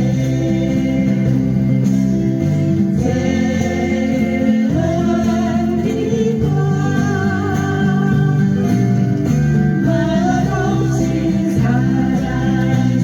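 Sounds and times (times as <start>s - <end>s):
group singing folk song: 0.0s - 13.0s
strummed acoustic guitars: 0.0s - 13.0s.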